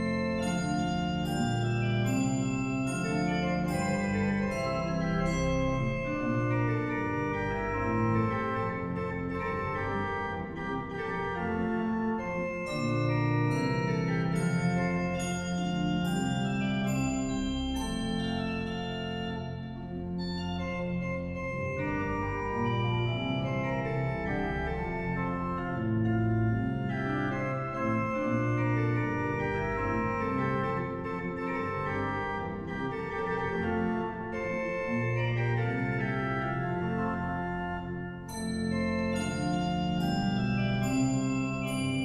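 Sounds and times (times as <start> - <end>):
pipe organ playing chords: 0.0 - 42.0.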